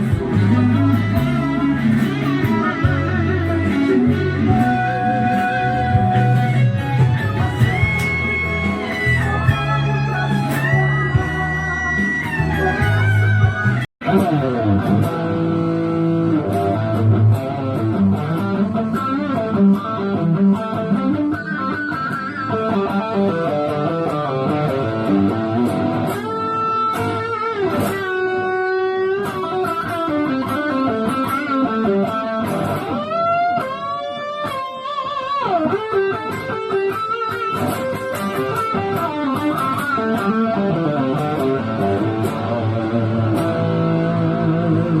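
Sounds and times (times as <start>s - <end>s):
band backing: 0.0s - 45.0s
electric guitar solo: 0.0s - 45.0s.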